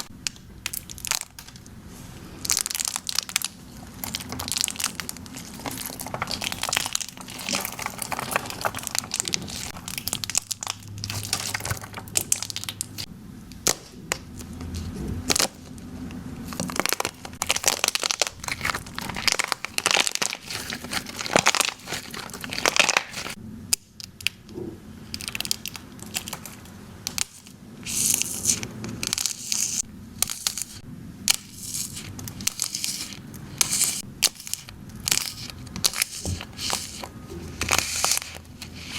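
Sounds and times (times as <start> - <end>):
slime crackling and popping: 0.0 - 1.7, 2.4 - 14.5, 16.5 - 24.5, 25.1 - 38.9.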